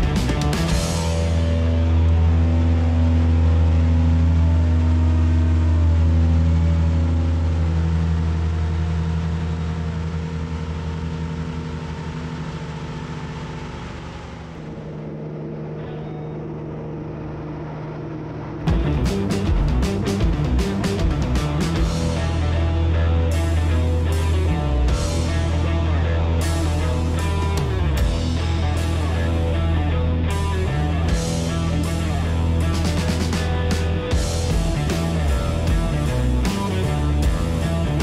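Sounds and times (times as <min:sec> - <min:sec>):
hovercraft engine and fan: 0:00.0 - 0:38.0.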